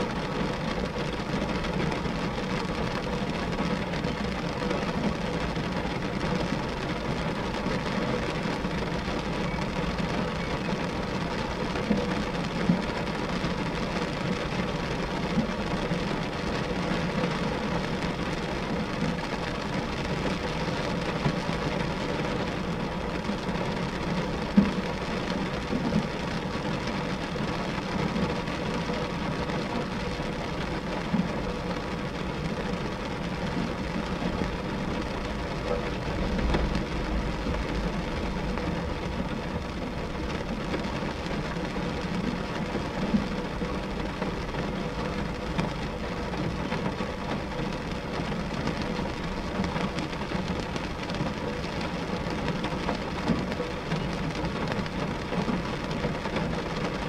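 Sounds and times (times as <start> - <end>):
louder raindrop taps: 0.0 - 57.0
rain falling on glass: 0.0 - 57.0.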